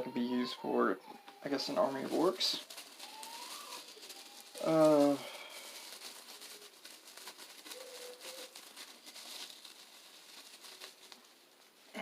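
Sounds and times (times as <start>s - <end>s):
packaging crinkling and rustling: 1.1s - 11.7s.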